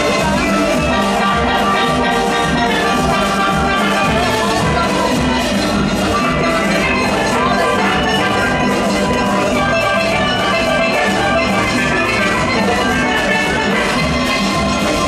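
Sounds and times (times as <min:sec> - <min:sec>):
drums steady beat: 0:00.0 - 0:15.0
steelpans playing fast tune: 0:00.0 - 0:15.0.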